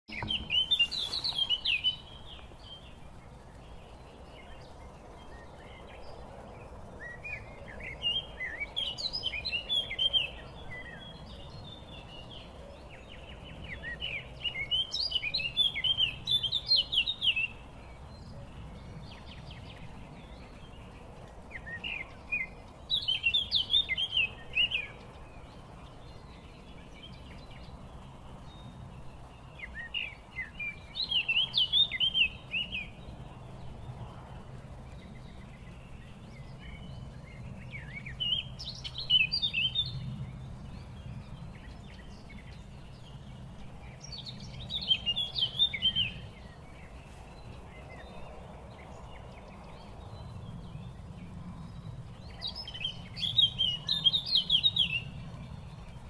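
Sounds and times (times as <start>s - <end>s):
songbird singing chattering phrases: 0.1s - 56.0s.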